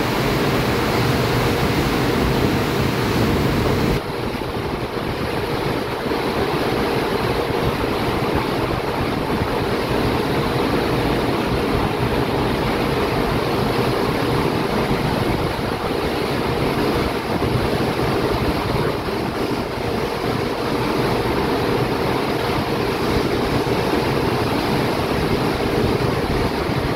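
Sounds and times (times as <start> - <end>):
faint ship hum: 0.0 - 26.9
rushing water of ship's wake: 0.0 - 26.9
wind buffeting microphone: 0.0 - 26.9.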